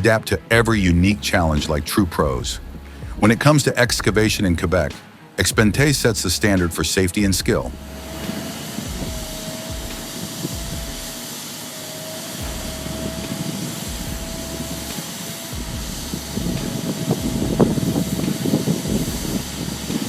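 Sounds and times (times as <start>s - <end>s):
heavy machinery whining and rumbling: 0.0s - 20.0s.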